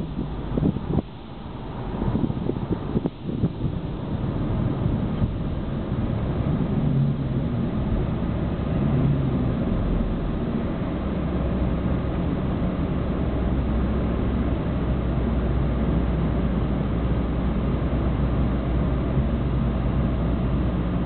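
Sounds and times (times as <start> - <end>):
car engine running: 0.0 - 21.0
road noise: 0.0 - 21.0
wind noise: 0.0 - 21.0.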